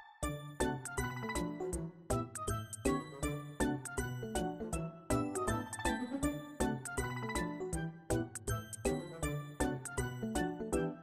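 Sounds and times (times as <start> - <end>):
music with steady beat: 0.6 - 10.2.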